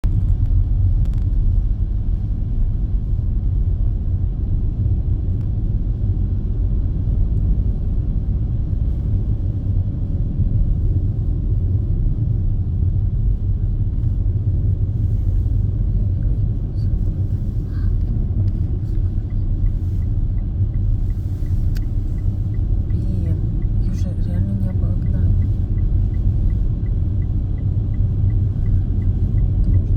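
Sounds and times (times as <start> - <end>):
car road and engine rumble: 0.0 - 29.9.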